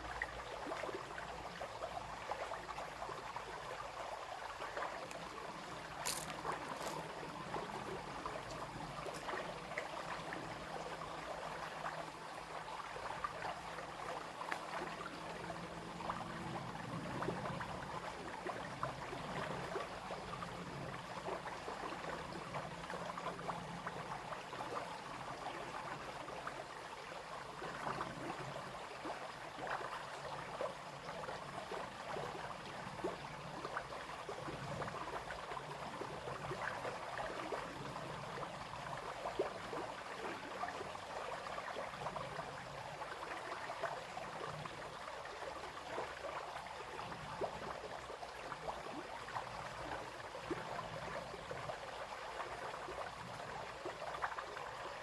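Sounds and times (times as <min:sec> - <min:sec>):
brook babbling and splashing: 0:00.0 - 0:55.0.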